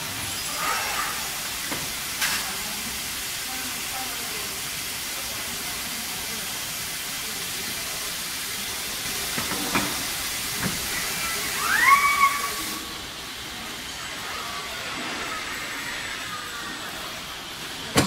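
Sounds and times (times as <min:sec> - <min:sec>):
steady machine hiss: 0:00.0 - 0:18.0.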